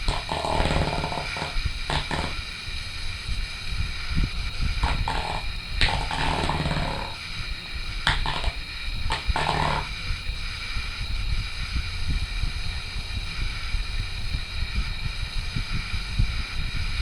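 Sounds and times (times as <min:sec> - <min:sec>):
electric fan hum: 0:00.0 - 0:17.0.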